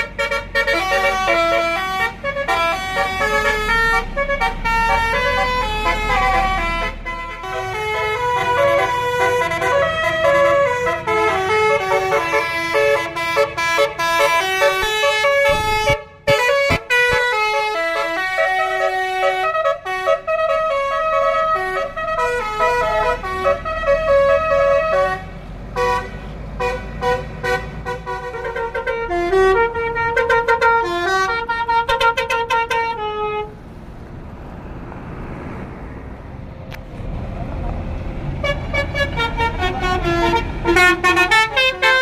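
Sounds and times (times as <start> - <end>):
musical horn playing a tune: 0.0 - 33.6, 38.4 - 42.0
bus engine rumbling: 0.0 - 42.0.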